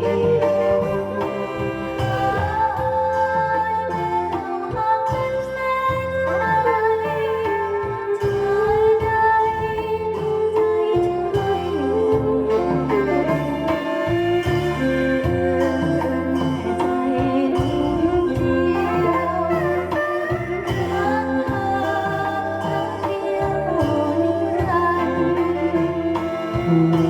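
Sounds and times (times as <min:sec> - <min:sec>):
backing track with bass and beat: 0:00.0 - 0:27.0
bowed fiddle sliding melody: 0:00.0 - 0:27.0.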